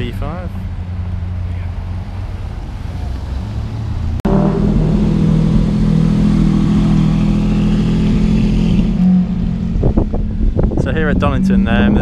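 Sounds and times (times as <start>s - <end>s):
car engine pulling away: 0.6s - 12.0s.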